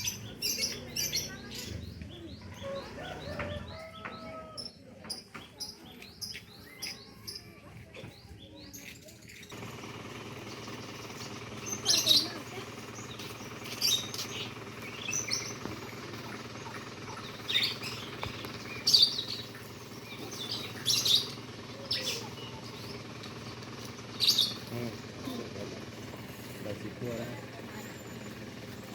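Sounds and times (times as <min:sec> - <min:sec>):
bird chirping calls: 0:00.0 - 0:28.9.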